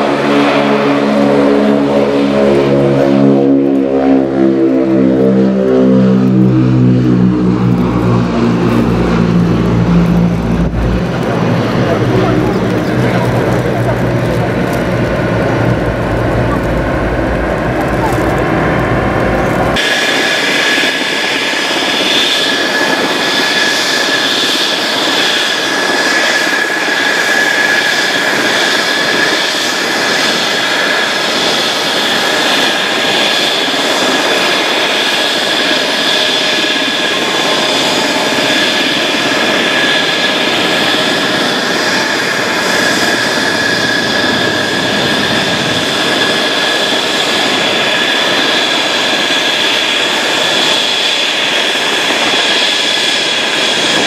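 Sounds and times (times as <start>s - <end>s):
turboprop engines roaring: 0.0s - 54.0s.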